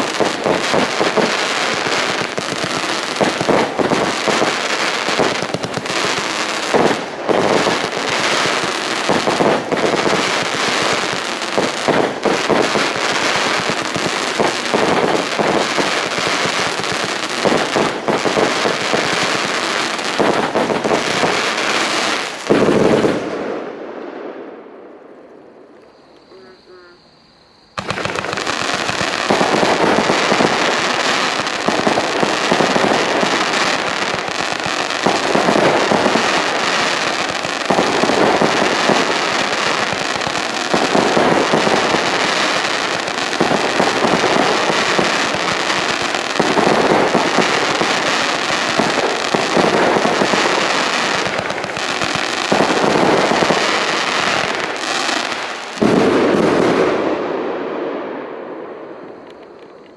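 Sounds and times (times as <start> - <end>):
firework cake firing: 0.0 - 27.0, 27.7 - 59.9
firework crackling: 0.0 - 59.9.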